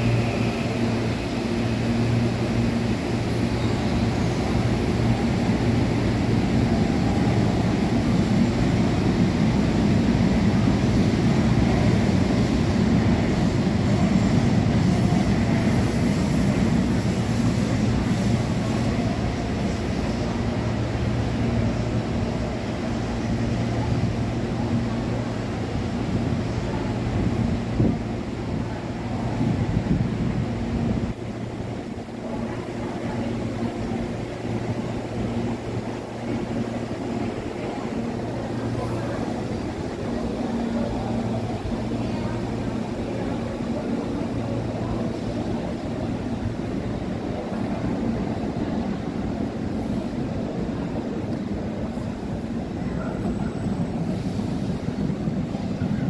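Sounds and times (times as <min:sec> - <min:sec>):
electric train rumbling and humming: 0:00.0 - 0:56.0.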